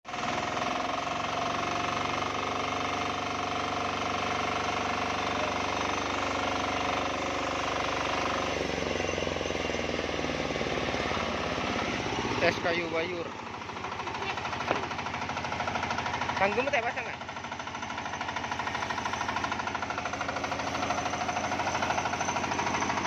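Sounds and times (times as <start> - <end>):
diesel engine knocking: 0.1 - 23.0.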